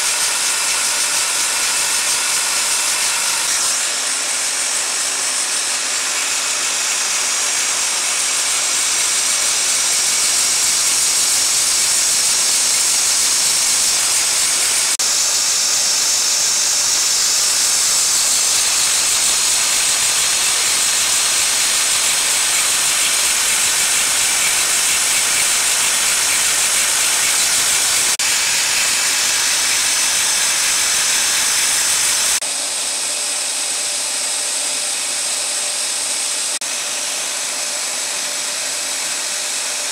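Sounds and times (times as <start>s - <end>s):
converting machine hissing: 0.0s - 39.9s.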